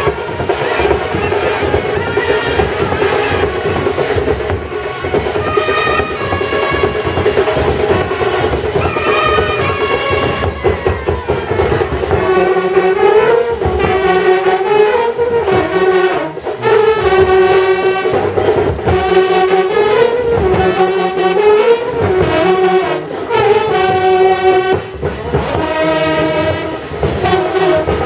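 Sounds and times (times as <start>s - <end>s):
brass band horns playing melody: 0.0s - 28.0s
drums beating: 0.0s - 28.0s.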